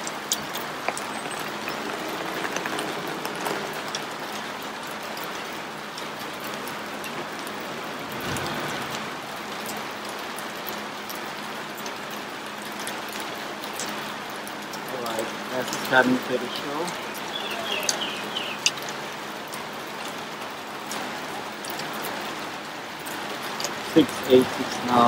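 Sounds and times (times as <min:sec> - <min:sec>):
heavy rain falling: 0:00.0 - 0:25.0
rain drop ticks: 0:00.0 - 0:25.0
tyre hiss on wet street: 0:00.0 - 0:25.0.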